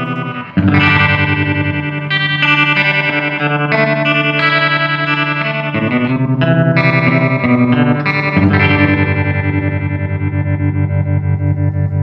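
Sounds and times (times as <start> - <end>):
electric guitar chords with tremolo: 0.0 - 12.0.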